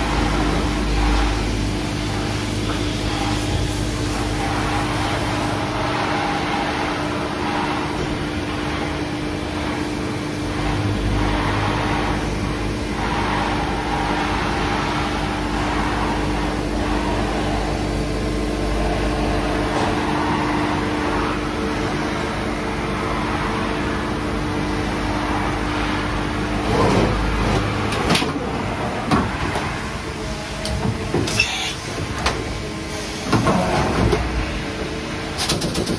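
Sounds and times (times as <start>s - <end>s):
steady machine hum: 0.0s - 35.9s.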